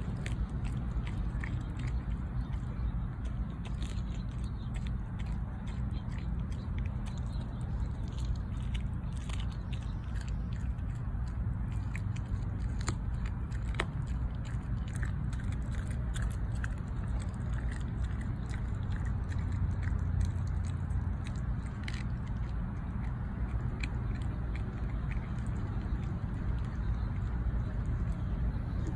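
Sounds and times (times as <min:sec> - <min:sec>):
dog crunching bone: 0:00.0 - 0:28.9.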